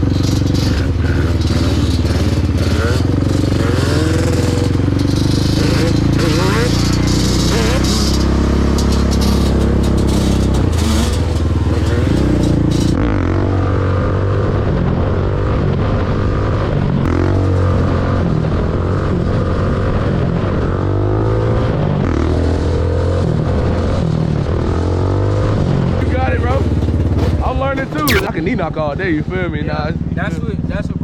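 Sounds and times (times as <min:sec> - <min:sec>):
dirt bike engine revving: 0:00.0 - 0:30.8.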